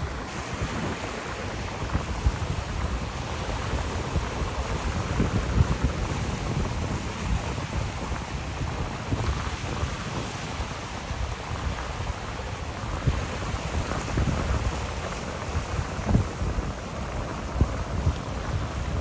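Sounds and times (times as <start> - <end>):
surf washing on shore: 0.0 - 19.0.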